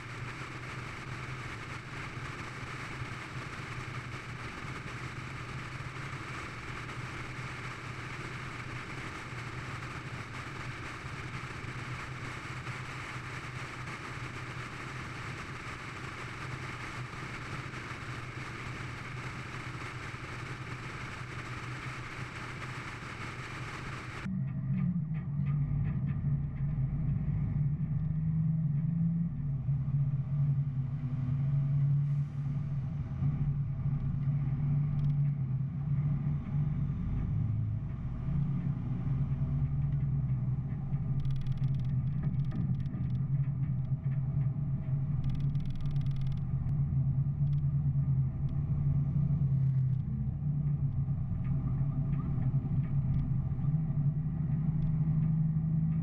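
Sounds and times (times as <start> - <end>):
low engine drone: 0.0 - 56.0.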